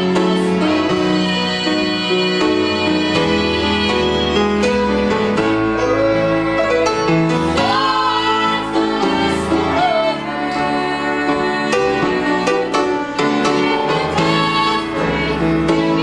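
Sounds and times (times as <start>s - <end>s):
woman singing: 0.0s - 4.8s, 7.5s - 16.0s
grand piano accompaniment: 0.0s - 16.0s.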